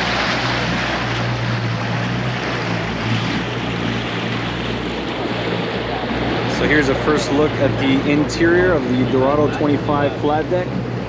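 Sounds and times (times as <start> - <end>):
outboard motor drone: 0.0 - 11.0
rushing wake water: 0.0 - 11.0
wind: 0.0 - 11.0.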